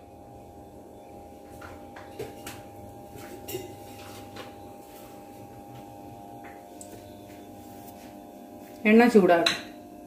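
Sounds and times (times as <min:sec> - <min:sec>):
gas burner hum: 0:00.0 - 0:10.0.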